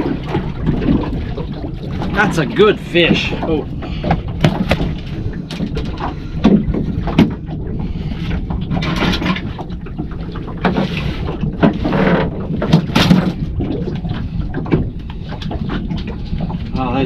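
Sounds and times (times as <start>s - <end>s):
water washing against hull: 0.0s - 17.0s.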